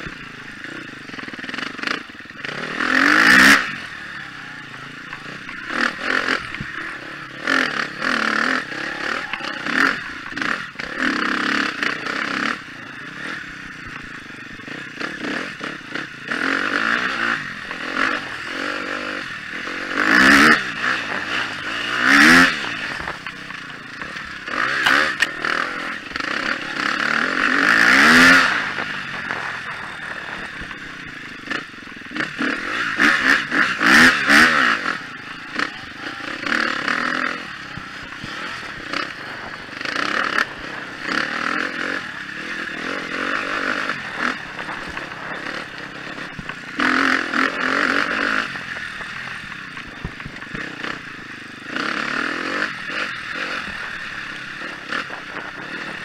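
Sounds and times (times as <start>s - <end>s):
dirt bike engine revving: 0.0s - 56.0s
bike knocking and rattling: 4.7s - 56.0s.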